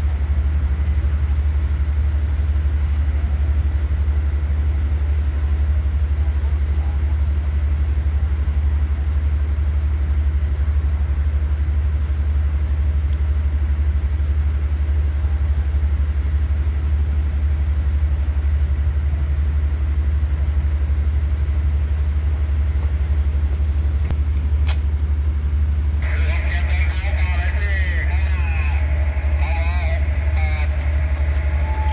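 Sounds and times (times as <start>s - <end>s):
diesel train idling drone: 0.0s - 31.9s.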